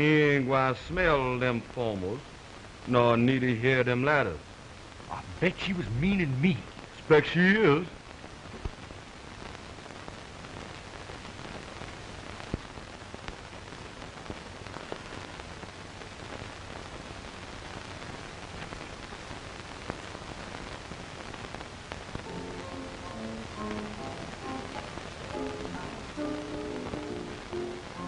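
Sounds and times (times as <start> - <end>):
film soundtrack hiss and crackles: 0.0 - 28.0.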